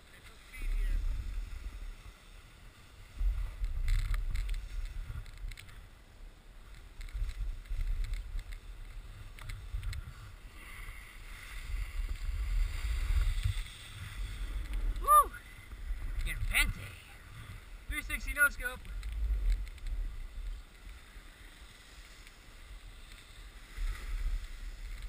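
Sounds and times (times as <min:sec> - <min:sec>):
snowboard sliding over snow: 0:00.0 - 0:25.0
wind rumbling on microphone: 0:00.0 - 0:25.0.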